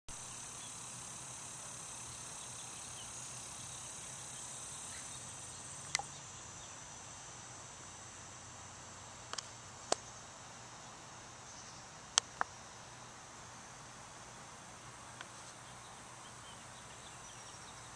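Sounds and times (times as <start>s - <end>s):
insects chorus: 0.1s - 17.9s.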